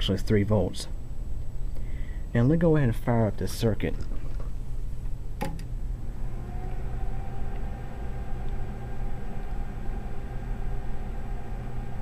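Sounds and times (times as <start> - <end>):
faint steady whine: 0.0 - 12.0
low hum of lab equipment: 0.0 - 12.0.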